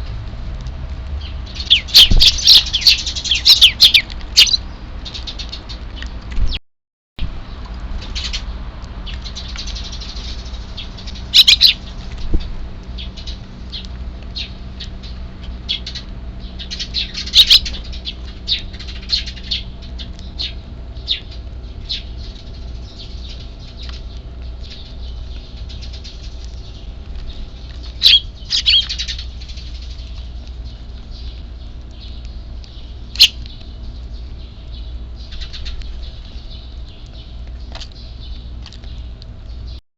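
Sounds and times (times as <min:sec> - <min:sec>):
sparrows chirping: 0:01.2 - 0:06.6, 0:07.4 - 0:39.8.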